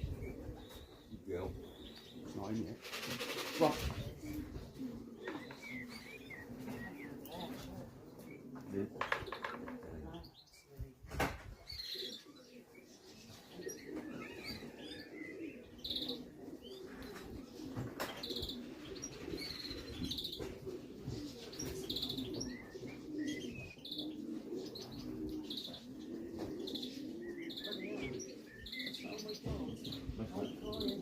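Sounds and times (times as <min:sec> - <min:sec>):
pigeons cooing: 0:00.0 - 0:31.0
small birds chirping: 0:00.0 - 0:31.0.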